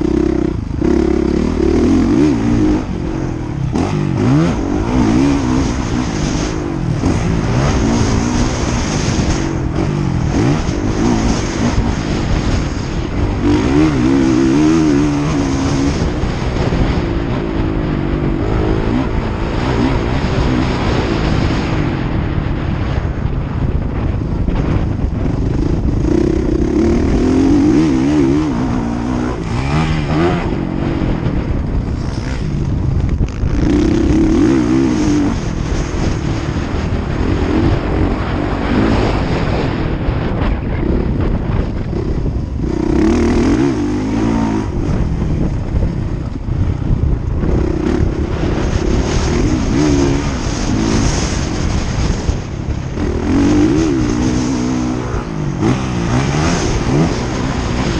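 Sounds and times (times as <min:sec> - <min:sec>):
distant motorcycle engines: 0:00.0 - 0:57.9
motorcycle engines revving: 0:00.0 - 0:57.9.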